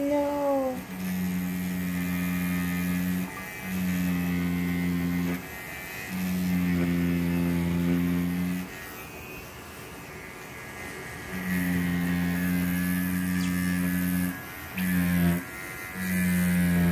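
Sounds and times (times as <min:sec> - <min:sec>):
tattoo machine humming: 0:00.0 - 0:16.9.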